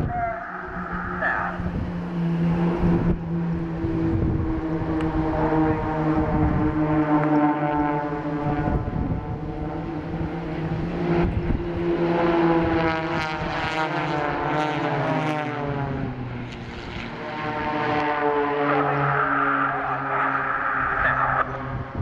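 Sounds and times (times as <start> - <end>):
propeller planes droning past: 0.0 - 22.0.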